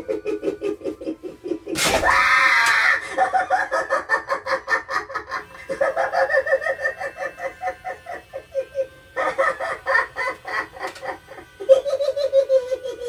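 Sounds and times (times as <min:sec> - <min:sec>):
clown animatronic laughing: 0:00.0 - 0:13.0.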